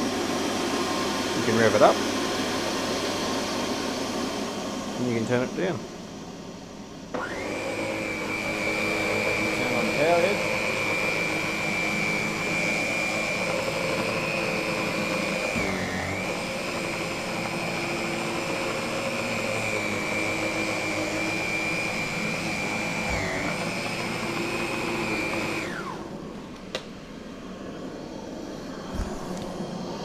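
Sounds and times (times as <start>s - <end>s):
vacuum cleaner whine: 0.0s - 30.0s.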